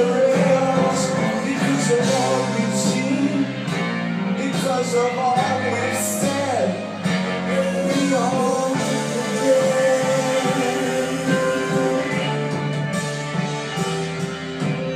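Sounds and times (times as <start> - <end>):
person singing: 0.0 - 13.0
rock band with guitar: 0.0 - 14.9.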